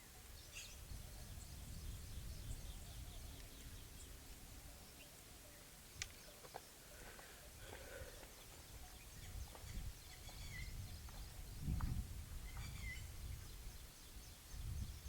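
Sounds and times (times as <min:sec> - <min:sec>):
bird chirps: 0:00.0 - 0:06.8, 0:08.3 - 0:11.8, 0:12.4 - 0:15.0.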